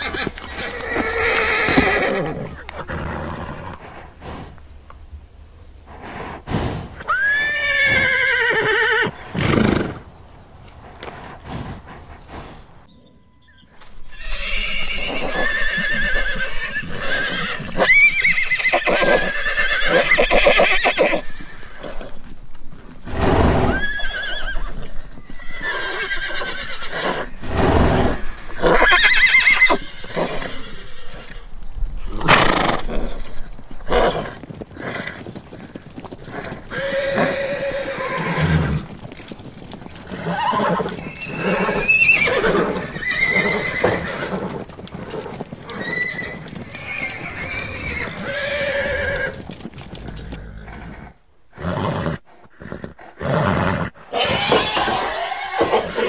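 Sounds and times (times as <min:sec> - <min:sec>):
horses neighing: 0:00.0 - 0:04.6, 0:05.9 - 0:12.8, 0:13.8 - 0:56.0.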